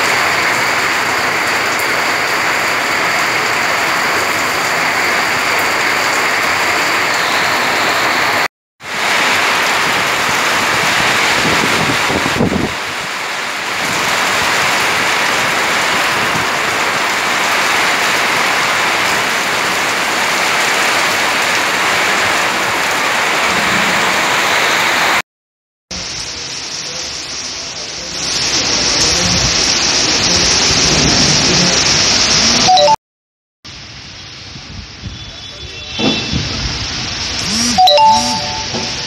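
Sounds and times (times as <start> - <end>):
heavy rain pouring: 0.0 - 25.2, 25.9 - 33.0, 33.7 - 39.0.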